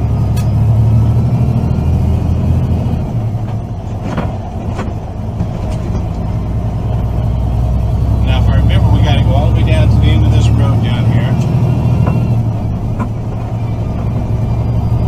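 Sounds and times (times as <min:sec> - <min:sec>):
diesel truck engine droning: 0:00.0 - 0:15.0
road noise: 0:00.0 - 0:15.0.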